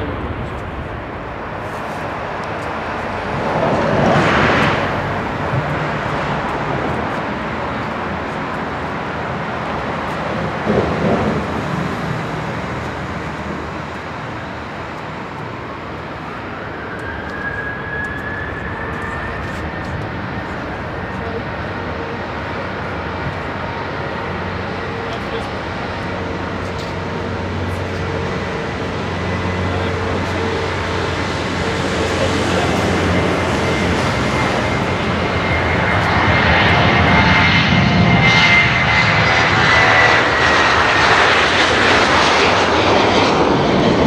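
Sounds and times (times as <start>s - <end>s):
jet engines running: 0.0s - 44.0s
rising whine: 0.0s - 44.0s.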